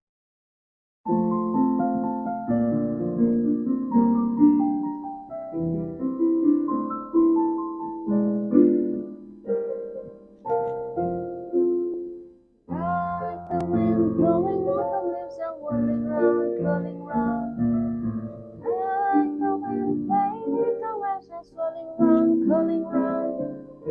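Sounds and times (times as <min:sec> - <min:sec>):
slow piano chords: 0:01.1 - 0:23.9.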